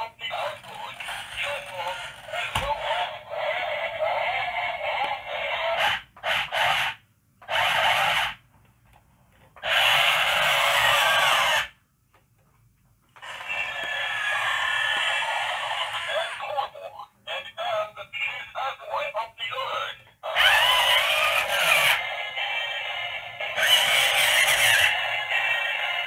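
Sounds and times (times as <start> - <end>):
toy speaker electronic sounds and music: 0.2 - 8.4, 9.6 - 11.8, 13.2 - 26.0.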